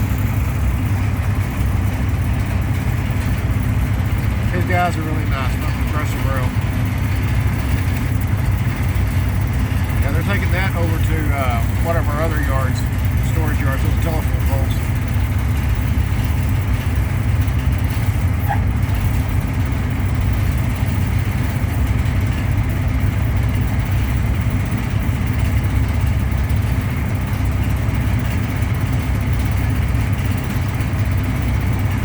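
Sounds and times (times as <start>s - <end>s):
air conditioning running: 0.0s - 32.0s
truck engine idling: 0.0s - 32.0s.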